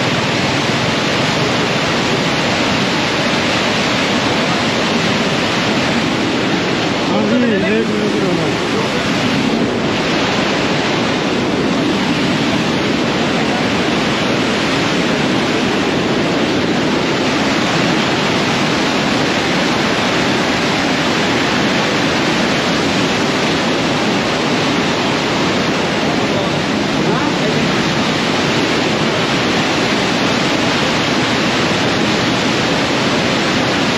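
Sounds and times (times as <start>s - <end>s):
floodwater rushing: 0.0s - 33.9s.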